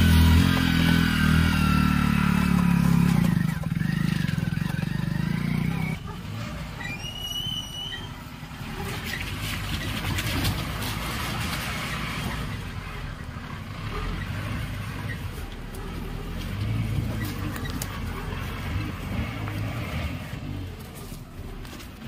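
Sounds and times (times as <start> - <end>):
vehicle engine at low revs: 0.0 - 7.2, 7.8 - 22.0.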